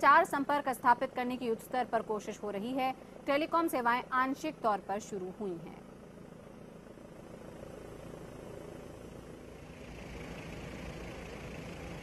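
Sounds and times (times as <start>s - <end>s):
helicopter engine and rotor noise: 0.0s - 12.0s.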